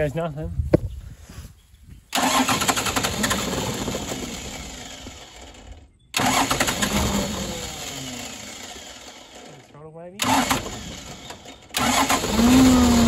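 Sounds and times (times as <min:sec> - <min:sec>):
diesel engine cranking: 0:02.1 - 0:13.0.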